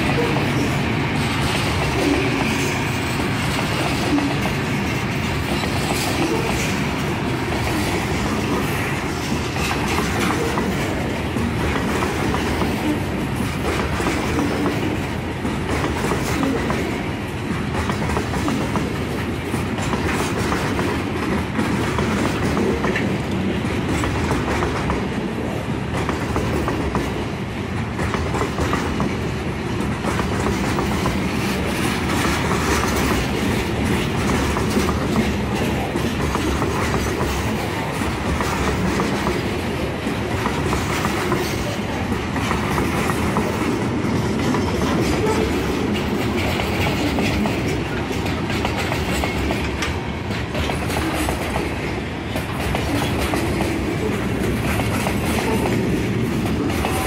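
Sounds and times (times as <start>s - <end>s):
freight train rumble: 0.0s - 57.0s
wheels clicking over rail joints: 0.0s - 57.0s.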